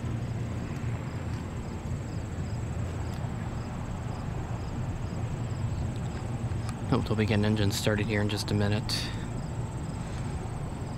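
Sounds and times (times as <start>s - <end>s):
constant low rumble: 0.0s - 10.9s
insects trilling: 0.1s - 10.9s.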